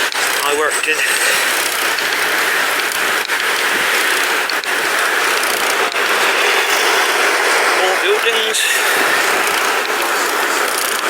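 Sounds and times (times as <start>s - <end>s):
bicycle tyres on pavement: 0.0s - 11.0s
sharp clicks: 0.0s - 11.0s.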